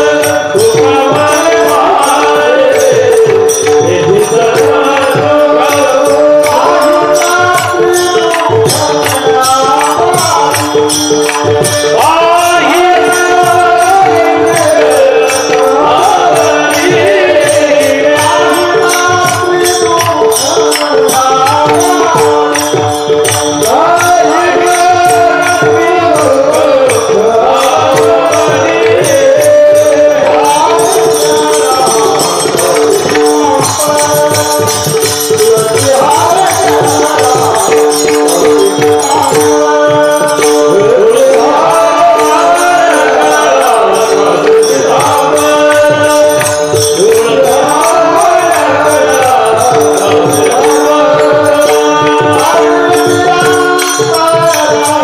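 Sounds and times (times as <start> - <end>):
man singing devotional song: 0.0 - 55.0
small hand cymbals: 0.0 - 55.0.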